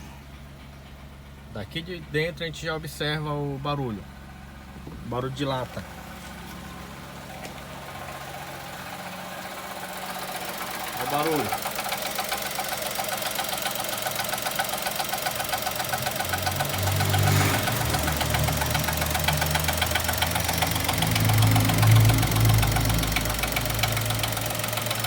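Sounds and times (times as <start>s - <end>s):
deep engine hum: 0.0s - 25.0s
tinny clatter of idling engine: 0.0s - 25.0s.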